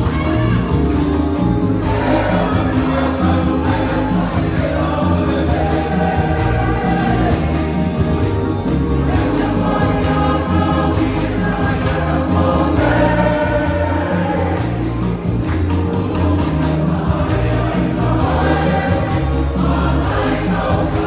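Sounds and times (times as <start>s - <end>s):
band with bass and percussion: 0.0s - 21.0s
choir singing a hymn: 0.0s - 21.0s.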